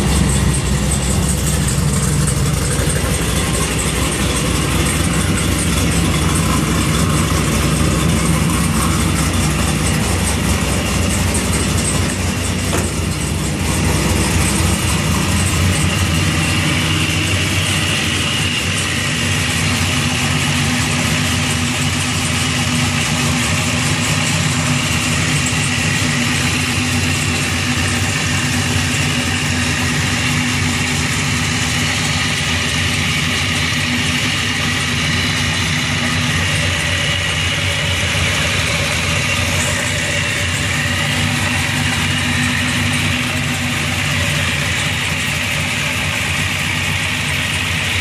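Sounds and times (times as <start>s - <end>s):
choppy engine idle: 0.0s - 48.0s.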